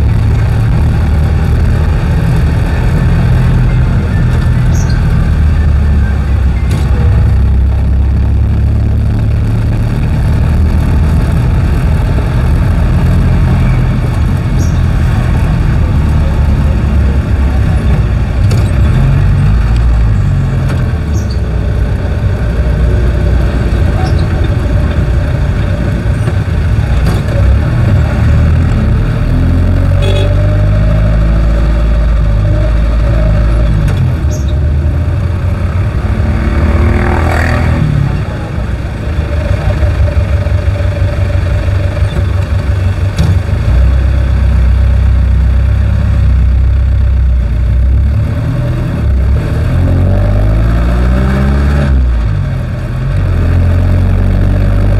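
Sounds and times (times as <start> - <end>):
road noise: 0.0 - 54.9
vehicle engine revving: 0.0 - 54.9.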